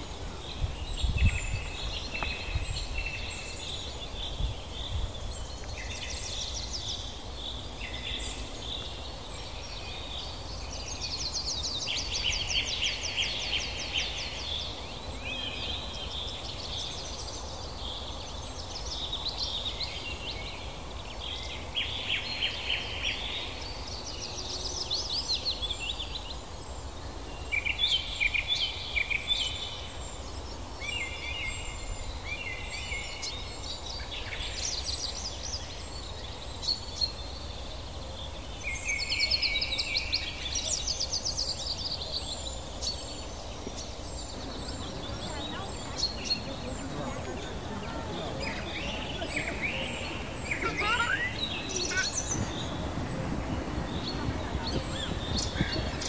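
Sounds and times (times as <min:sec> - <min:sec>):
songbirds chirping and trilling: 0:00.0 - 0:56.0
steady background hiss: 0:00.0 - 0:56.0.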